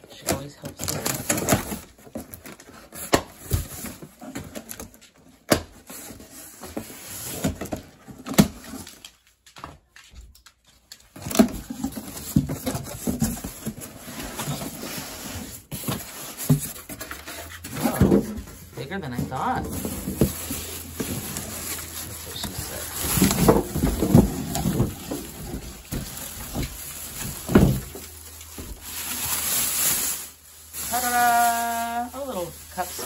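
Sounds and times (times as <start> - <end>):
rustling of packaging: 0.0 - 33.0.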